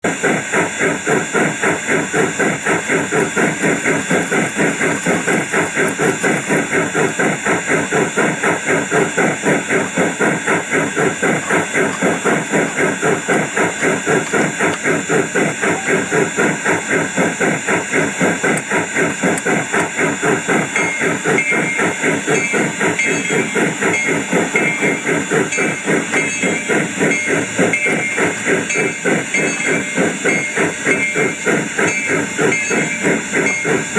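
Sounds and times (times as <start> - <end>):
model steam locomotive chuffing: 0.0 - 33.9
steam hiss: 0.1 - 33.9.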